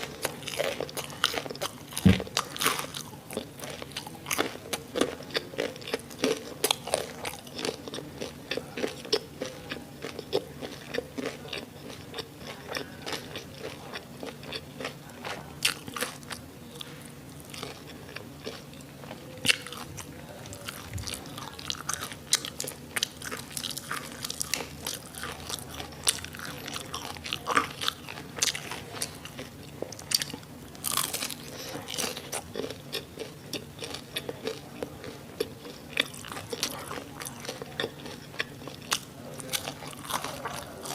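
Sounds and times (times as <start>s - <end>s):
wet chewing: 0.0s - 40.9s
crunching bites of crispy food: 0.1s - 40.9s.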